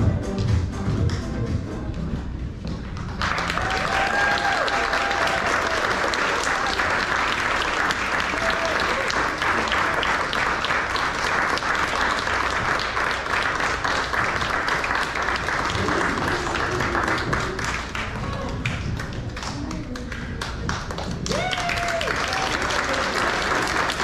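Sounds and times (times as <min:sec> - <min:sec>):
audience applauding: 0:03.0 - 0:24.0.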